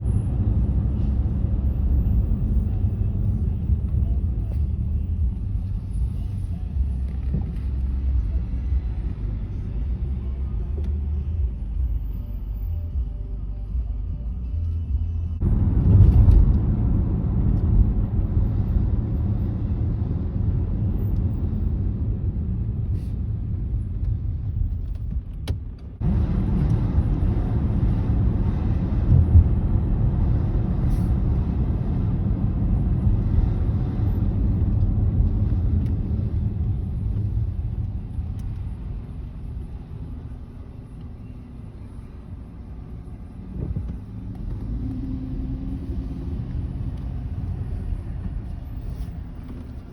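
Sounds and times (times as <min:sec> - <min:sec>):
heavy vehicles engine rumble: 0:00.0 - 0:49.9
road noise: 0:00.0 - 0:49.9.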